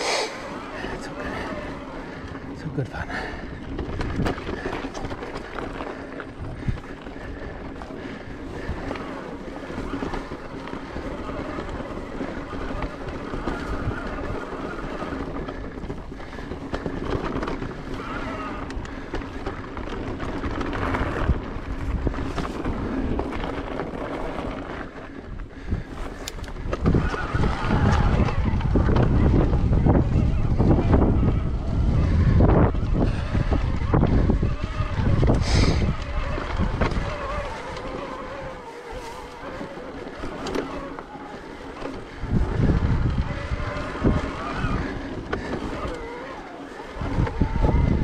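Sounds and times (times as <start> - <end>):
bike tyre and rattle noise: 0.0 - 48.0
wind rushing over microphone: 0.0 - 48.0.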